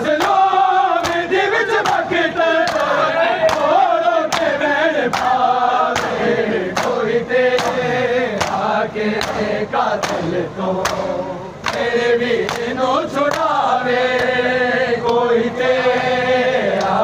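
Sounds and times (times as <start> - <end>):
men chanting a lament: 0.0 - 17.0.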